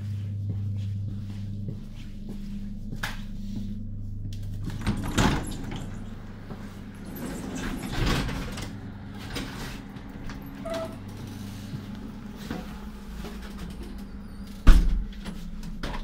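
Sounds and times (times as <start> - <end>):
train carriage low hum: 0.0 - 16.0.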